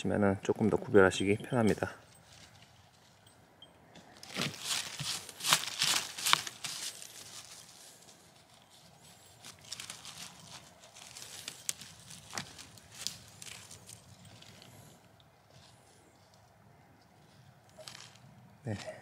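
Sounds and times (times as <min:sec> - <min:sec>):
rustling of dry leaves and twigs: 0:01.1 - 0:19.0.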